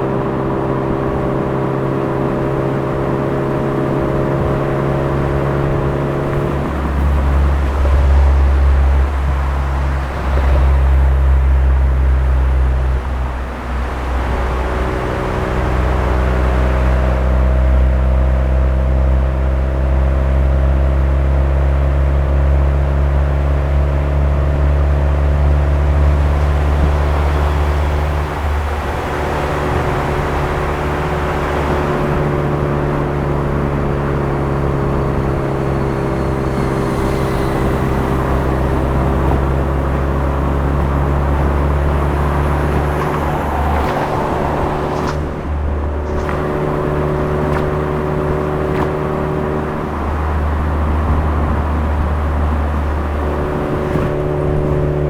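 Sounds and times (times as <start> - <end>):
car exhaust drone at cruise: 0.0 - 55.0.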